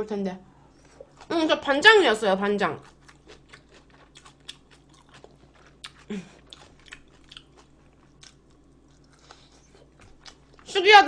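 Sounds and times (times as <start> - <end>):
chewing and crunching food: 0.7 - 1.7, 2.3 - 10.8.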